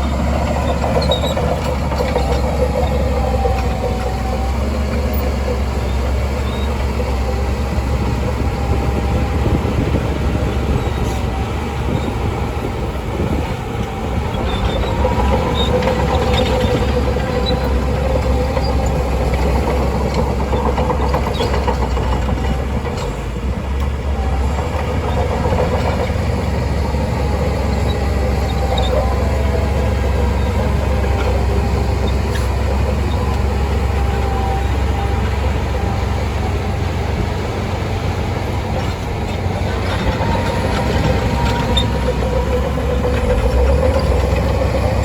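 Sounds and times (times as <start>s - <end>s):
bulldozer diesel engine: 0.0s - 45.0s
steel tracks clanking and squealing: 0.0s - 45.0s.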